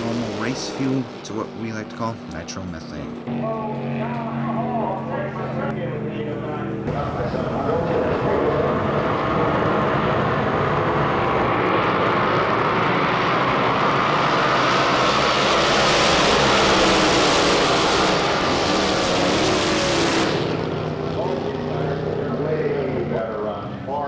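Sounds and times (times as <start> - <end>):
boat engine running hard: 0.0 - 24.0.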